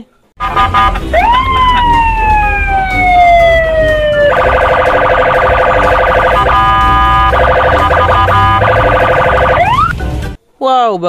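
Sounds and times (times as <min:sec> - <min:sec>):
police siren wailing and warbling: 0:00.4 - 0:10.0
low traffic rumble: 0:00.4 - 0:10.3.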